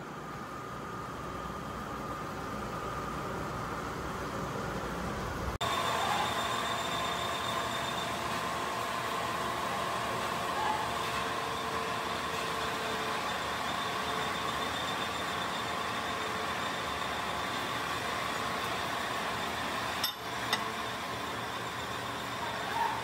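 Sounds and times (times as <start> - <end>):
hydraulic press machinery hum: 3.0 - 23.0.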